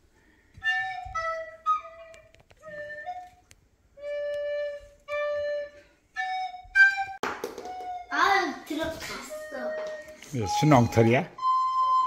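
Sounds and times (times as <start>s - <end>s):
soft woodwind melody: 0.5s - 8.3s, 9.0s - 12.0s.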